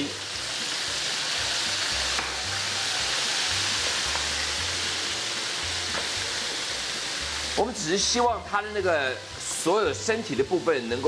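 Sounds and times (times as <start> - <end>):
background music bass: 0.0 - 11.0
food deep-frying in oil: 0.0 - 11.0.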